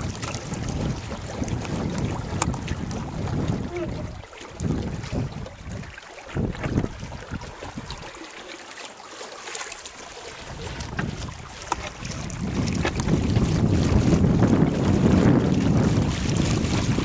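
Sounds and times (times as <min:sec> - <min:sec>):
wind buffeting microphone: 0:00.0 - 0:08.2, 0:10.3 - 0:17.0
water rushing along boat hull: 0:00.0 - 0:17.0.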